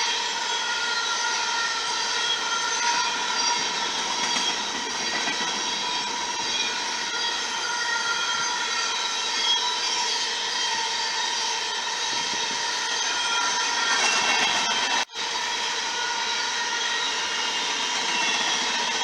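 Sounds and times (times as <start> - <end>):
train wheels rolling on rails: 0.0 - 19.0.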